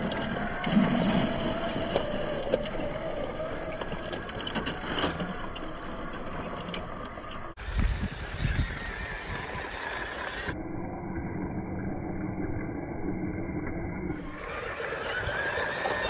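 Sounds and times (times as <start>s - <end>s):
small electric motor whine: 0.0s - 16.0s.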